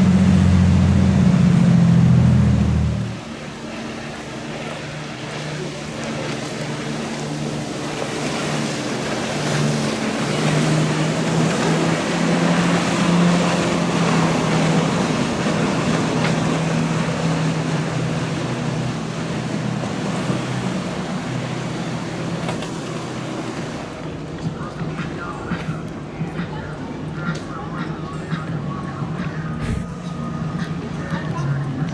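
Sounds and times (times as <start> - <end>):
motorboat engines running: 0.0 - 31.9
water and wake noise: 0.0 - 31.9.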